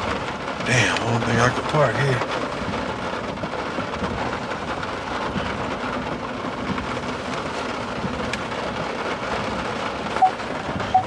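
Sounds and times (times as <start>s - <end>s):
rain on a truck: 0.0s - 11.0s
raindrop ticks: 0.0s - 11.0s.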